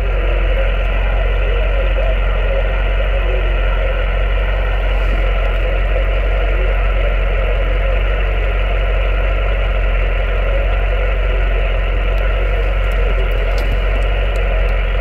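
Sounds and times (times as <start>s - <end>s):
radio static hiss: 0.0s - 8.8s, 10.4s - 15.0s
low rumble: 0.0s - 15.0s.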